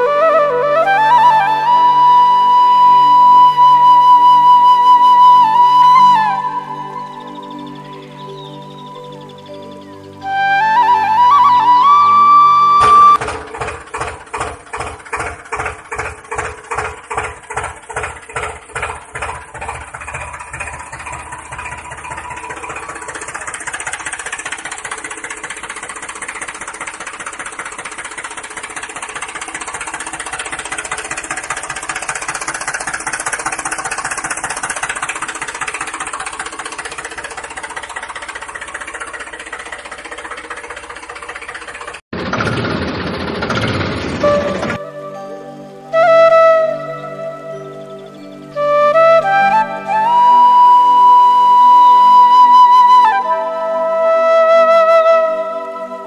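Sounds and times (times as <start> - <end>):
tractor engine chugging: 0.0 - 45.3, 47.4 - 56.0.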